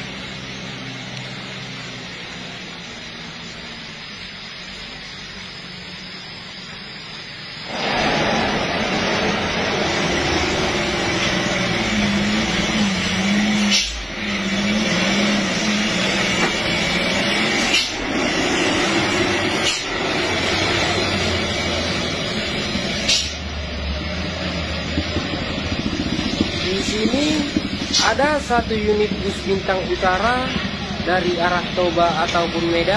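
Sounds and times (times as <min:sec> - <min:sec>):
truck diesel engine droning: 0:00.0 - 0:32.9
tyres hissing on wet road: 0:00.0 - 0:32.9.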